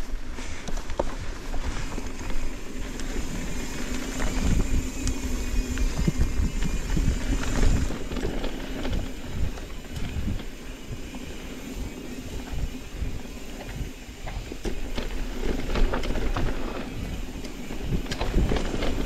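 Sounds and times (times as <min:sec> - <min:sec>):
bike clicks and rattles: 0:00.0 - 0:19.0
bike tyre noise on dirt: 0:00.0 - 0:19.0
wind rumble on microphone: 0:00.0 - 0:19.0.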